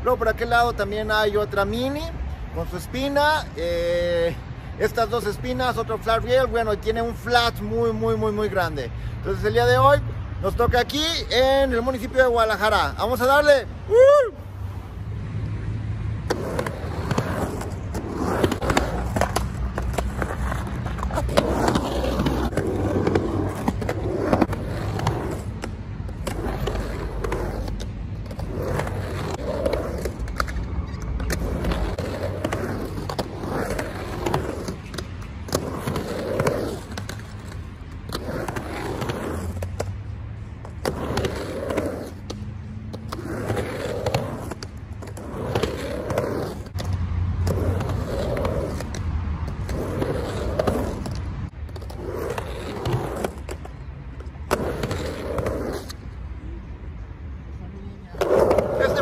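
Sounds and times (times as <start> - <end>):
skateboard wheels rolling on concrete: 0.0 - 59.0.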